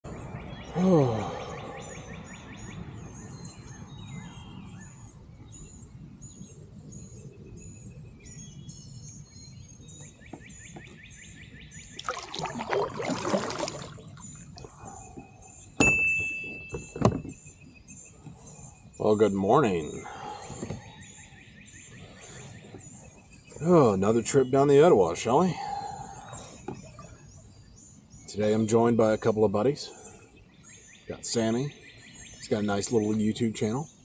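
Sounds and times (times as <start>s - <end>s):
small birds chirping: 0.0s - 15.9s, 16.5s - 34.0s.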